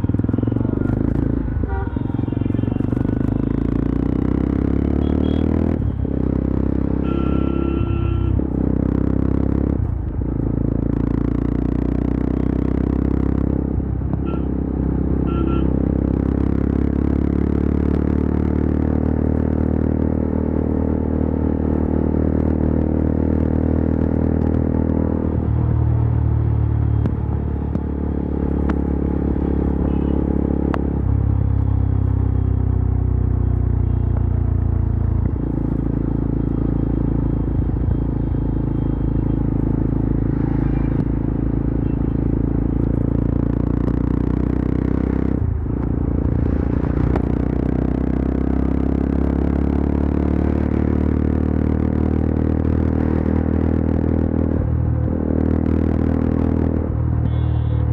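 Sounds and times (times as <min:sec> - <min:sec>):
motorcycle engine at speed: 0:00.0 - 0:57.9.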